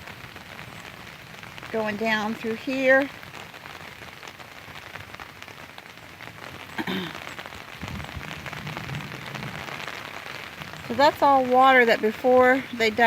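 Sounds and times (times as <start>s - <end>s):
raindrops ticking: 0.0s - 13.0s
steady rain falling: 0.0s - 13.0s.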